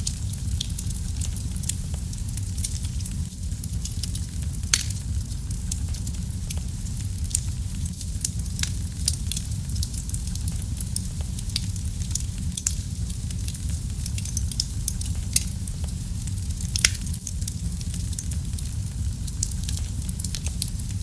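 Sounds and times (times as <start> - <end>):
wood fire burning: 0.0 - 21.0.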